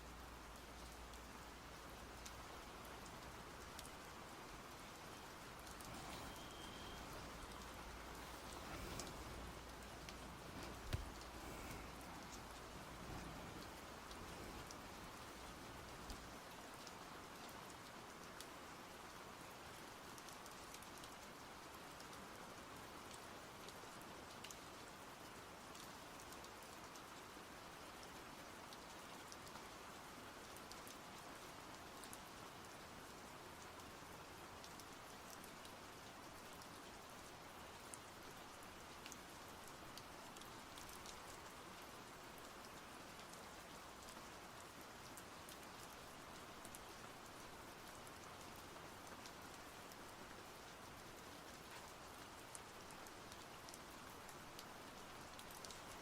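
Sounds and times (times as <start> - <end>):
soft rain falling: 0.0 - 56.0.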